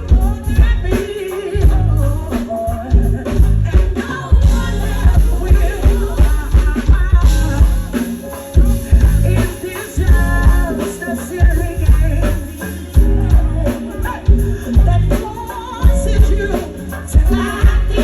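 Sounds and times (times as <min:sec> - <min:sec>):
bass line: 0:00.0 - 0:18.0
drums: 0:00.0 - 0:18.0
live band music: 0:00.0 - 0:18.0
woman singing: 0:00.0 - 0:18.0.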